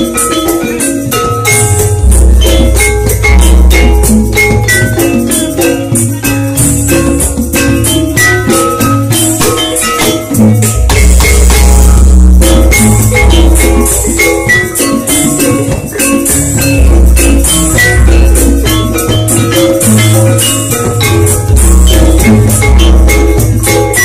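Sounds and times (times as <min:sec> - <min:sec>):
hand drums: 0:00.0 - 0:24.0
metallophones struck with mallets: 0:00.0 - 0:24.0.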